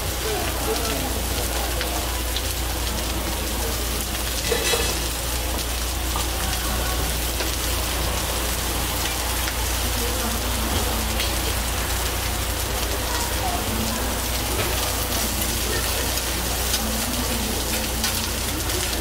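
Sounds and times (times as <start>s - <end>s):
chicken sizzling on a griddle: 0.0s - 19.0s.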